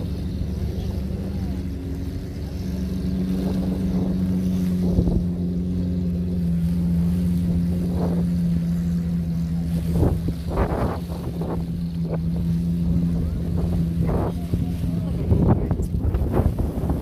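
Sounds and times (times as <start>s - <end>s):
engine running steadily: 0.0s - 17.0s
wind on microphone: 0.0s - 17.0s.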